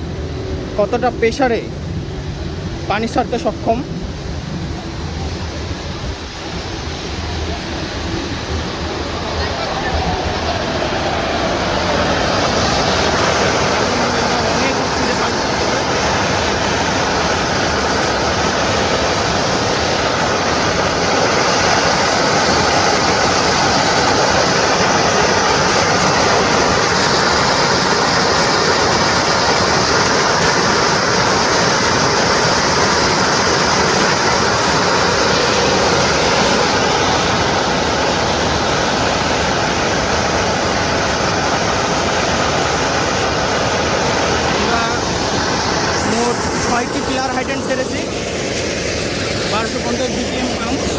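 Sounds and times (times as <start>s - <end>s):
pump engine running: 0.0s - 50.9s
water rushing from hydrant: 0.0s - 50.9s.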